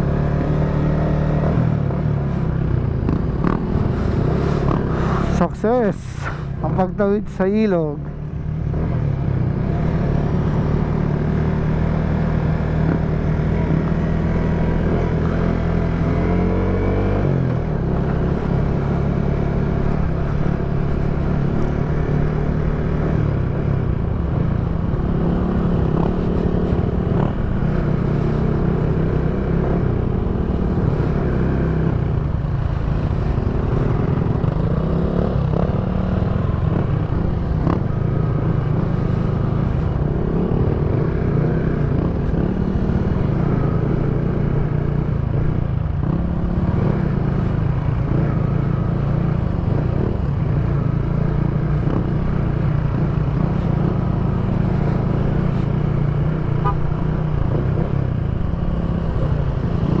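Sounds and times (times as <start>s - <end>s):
motorcycle engine revving: 0.0s - 6.8s, 7.8s - 60.0s.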